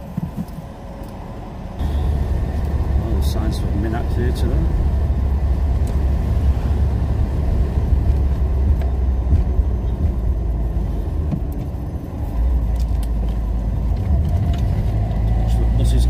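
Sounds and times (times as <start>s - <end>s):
heavy low engine: 0.0s - 16.0s
road rumble: 0.0s - 16.0s.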